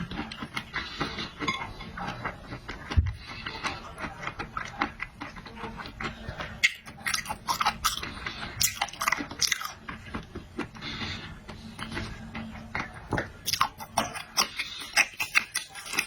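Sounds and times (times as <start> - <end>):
wet chewing and biting: 0.0 - 16.0
smacking and slurping clicks: 2.1 - 16.0.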